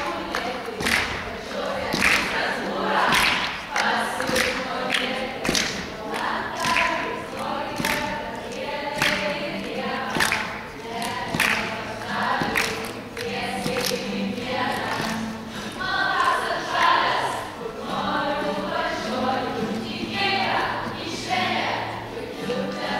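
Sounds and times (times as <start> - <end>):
young people singing in chorus: 0.0 - 22.9.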